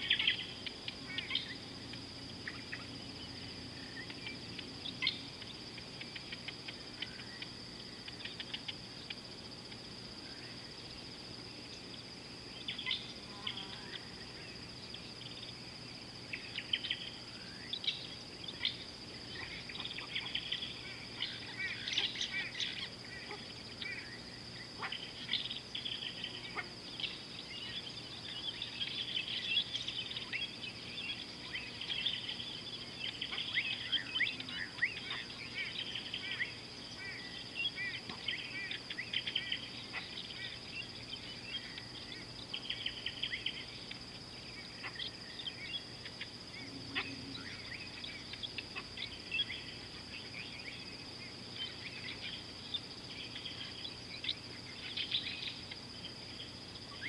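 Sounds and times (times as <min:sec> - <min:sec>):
birds chirping and trilling: 0:00.0 - 0:09.2, 0:11.7 - 0:57.0
high-pitched insect drone: 0:00.0 - 0:57.0.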